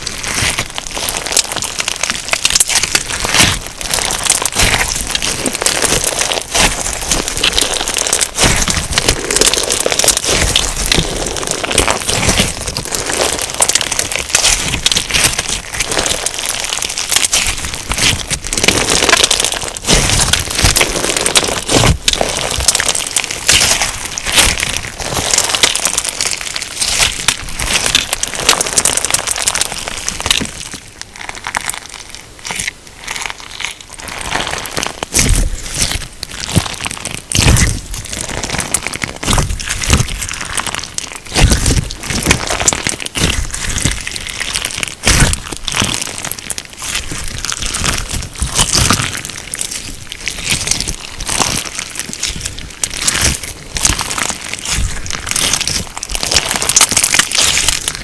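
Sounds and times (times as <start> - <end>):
crunchy slime crackling: 0.0 - 58.0.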